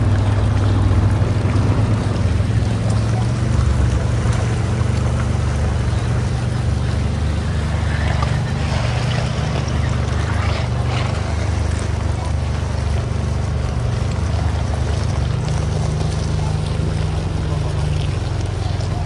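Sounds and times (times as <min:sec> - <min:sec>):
vehicle engine low drone: 0:00.0 - 0:19.0.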